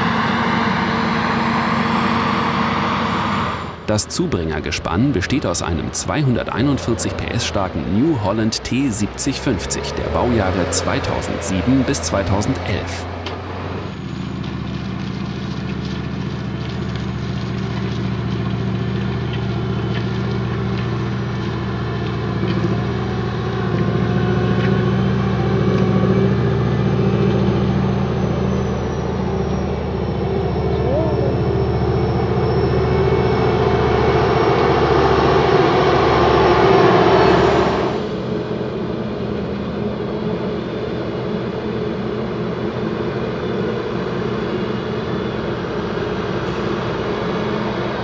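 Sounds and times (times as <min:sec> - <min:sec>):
diesel engine running under load: 0:00.0 - 0:48.0
disc harrow working: 0:00.0 - 0:48.0.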